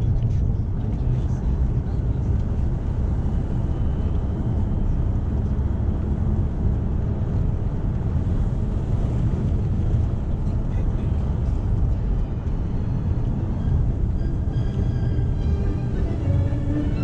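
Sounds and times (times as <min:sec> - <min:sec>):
diesel engine drone from cabin: 0:00.0 - 0:17.0
tyre and road noise: 0:00.0 - 0:17.0.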